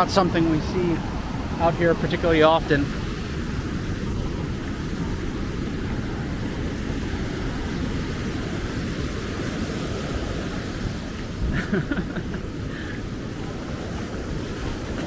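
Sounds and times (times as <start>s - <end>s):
storm surf breaking on beach: 0.0s - 15.0s
wind buffeting microphone: 0.0s - 15.0s.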